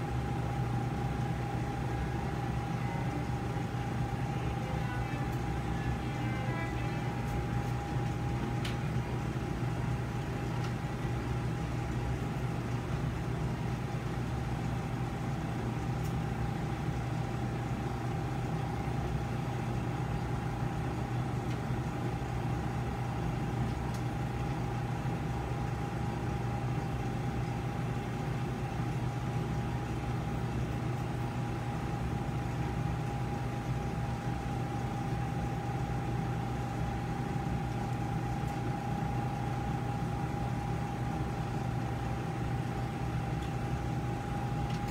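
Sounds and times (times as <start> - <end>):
constant whine: 0.0 - 44.9
equipment humming: 0.0 - 44.9.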